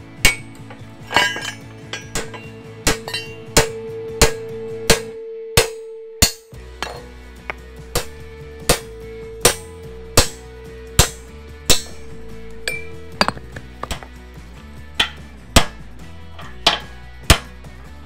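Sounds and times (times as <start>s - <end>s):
background music with bass: 0.0s - 18.0s
hammer striking metal punch: 0.2s - 14.1s, 15.0s - 15.8s, 16.4s - 17.5s.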